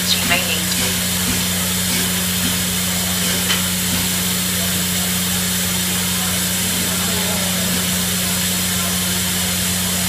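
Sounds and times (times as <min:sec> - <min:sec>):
steady low hum: 0:00.0 - 0:10.0
steam hissing: 0:00.0 - 0:10.0.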